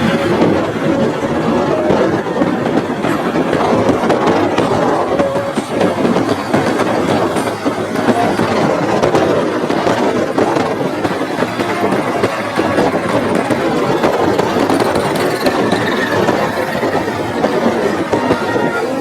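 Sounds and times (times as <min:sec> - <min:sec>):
vehicle rattling and rumbling: 0:00.0 - 0:19.0.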